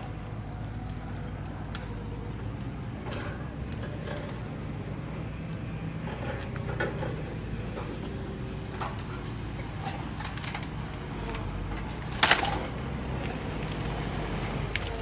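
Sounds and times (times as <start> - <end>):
knocks and clatter of debris: 0.0 - 4.9, 6.1 - 13.8.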